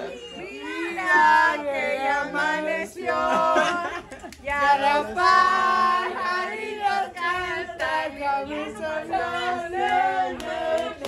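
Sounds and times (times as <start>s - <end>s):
voices singing unaccompanied: 0.0s - 11.0s.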